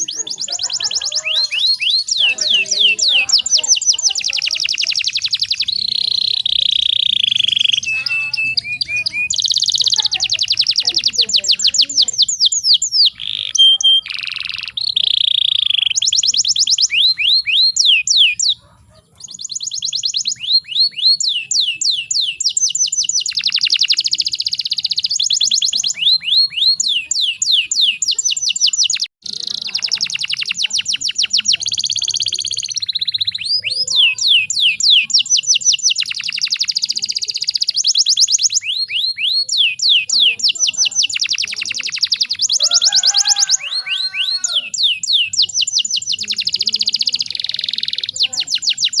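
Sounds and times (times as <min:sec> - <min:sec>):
canary singing: 0:00.0 - 0:49.0.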